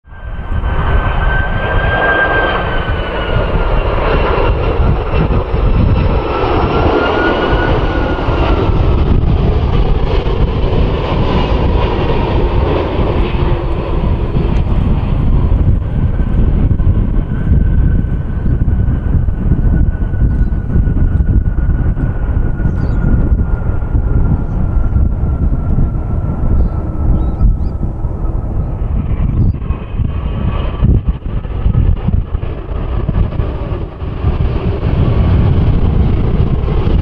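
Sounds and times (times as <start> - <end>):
jet engine whine: 0.0 - 37.0
jet engines rumbling: 0.1 - 37.0
wind buffeting microphone: 0.1 - 37.0.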